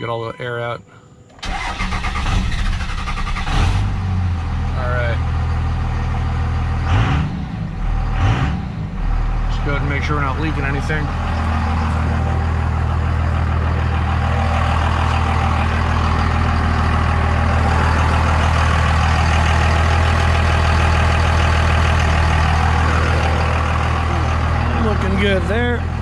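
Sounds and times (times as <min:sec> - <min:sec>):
diesel engine idling: 0:01.1 - 0:26.0.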